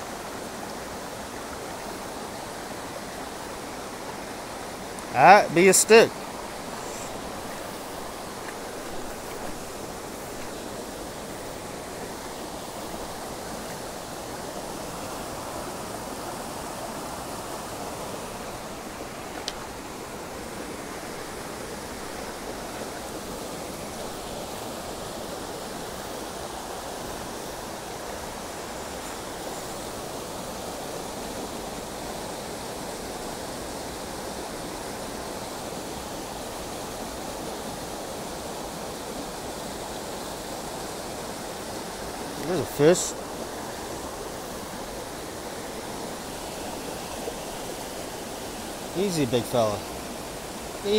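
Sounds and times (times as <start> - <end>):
stream water running over rocks: 0.0 - 50.9.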